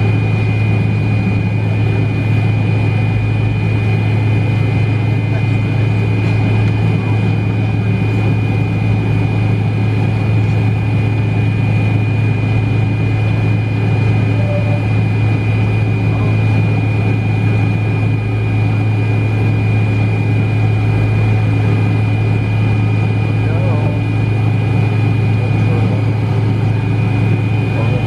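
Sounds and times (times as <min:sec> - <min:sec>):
high whine: 0:00.0 - 0:28.0
jet engines idling: 0:00.0 - 0:28.0.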